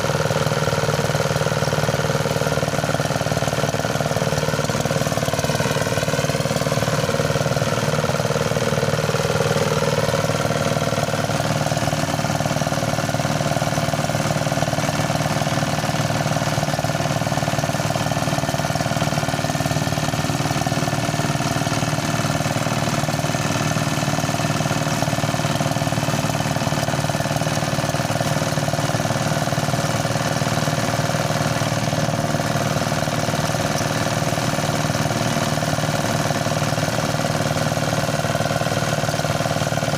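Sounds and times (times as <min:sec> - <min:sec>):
rice thresher mechanical drone: 0:00.0 - 0:39.9.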